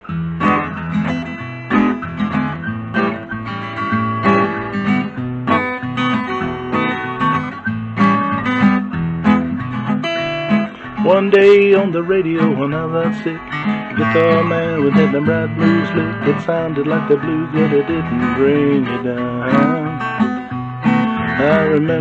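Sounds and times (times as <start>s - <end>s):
acoustic guitar strummed and picked: 0.0s - 22.0s.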